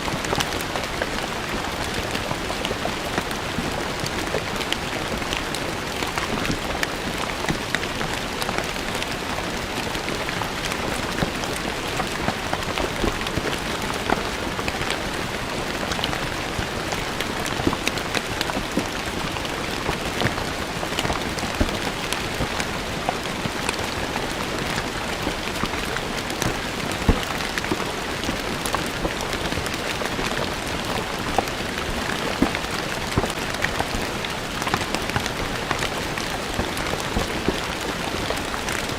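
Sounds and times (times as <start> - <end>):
rain on stone paving: 0.0 - 38.9.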